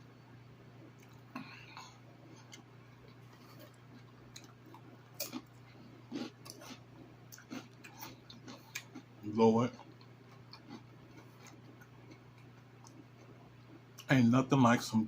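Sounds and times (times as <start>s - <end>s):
faint steady hum: 0.0s - 15.0s
person chewing: 0.9s - 14.1s.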